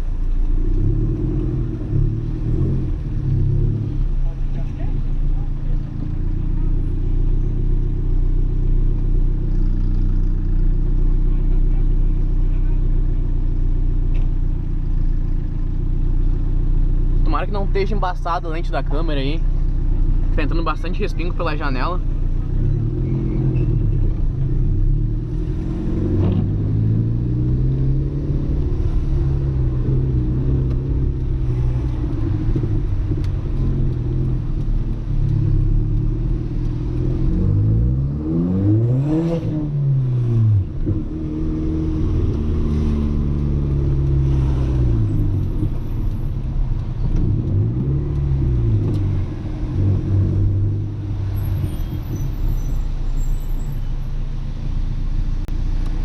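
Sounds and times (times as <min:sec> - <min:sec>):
car engine revving: 0:00.0 - 0:52.7
road and tyre rumble: 0:00.0 - 0:56.0.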